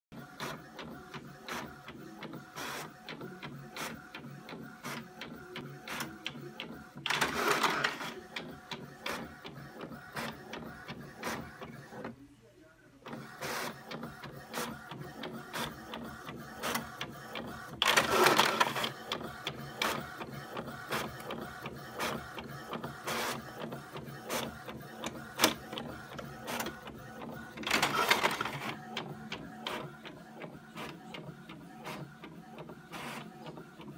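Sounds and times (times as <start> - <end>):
inkjet printer printing: 0.1 - 12.2, 13.0 - 33.9.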